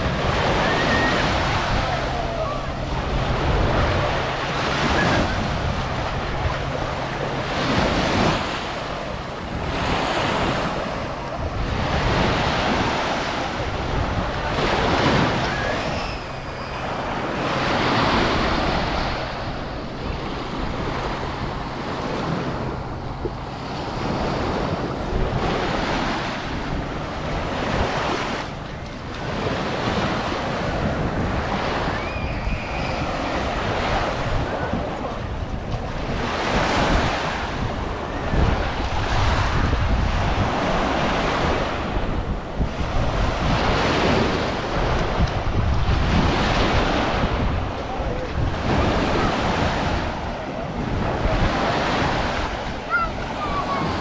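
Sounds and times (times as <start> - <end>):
small waves washing ashore: 0.0 - 54.0
wind rumbling on microphone: 0.0 - 54.0.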